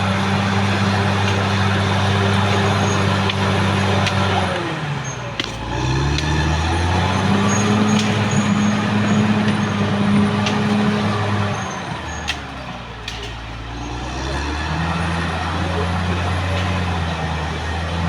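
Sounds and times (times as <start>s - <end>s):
bulldozer diesel engine: 0.0s - 18.0s.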